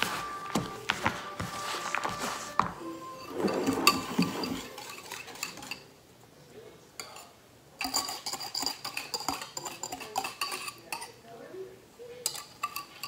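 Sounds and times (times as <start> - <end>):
spoon scraping and tapping bowl: 0.0 - 5.9, 7.0 - 11.2, 12.2 - 13.0
spoon stirring batter in bowl: 0.0 - 5.9, 7.0 - 11.4, 12.1 - 13.0.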